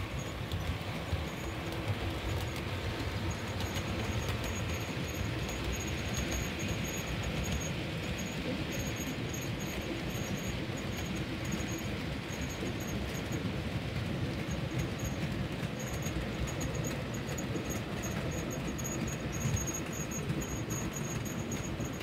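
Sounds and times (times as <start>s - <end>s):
model train wheels rumbling: 0.0s - 22.0s.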